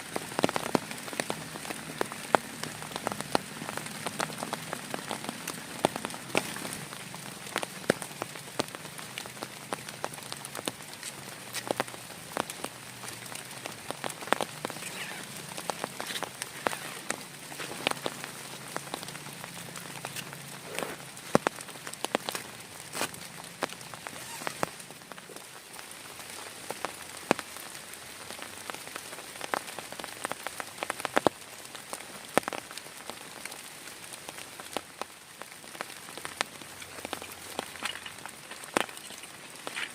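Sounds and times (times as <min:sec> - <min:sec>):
heavy rain: 0:00.0 - 0:39.9
large raindrops tapping a surface: 0:00.0 - 0:39.9.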